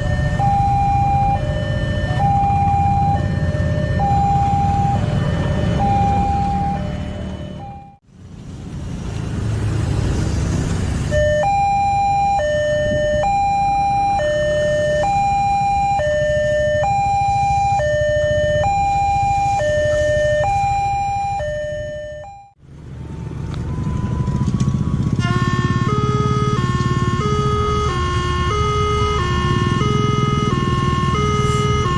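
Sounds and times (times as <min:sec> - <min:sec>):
level crossing two-tone alarm: 0:00.0 - 0:08.0, 0:11.1 - 0:22.6, 0:25.4 - 0:31.9.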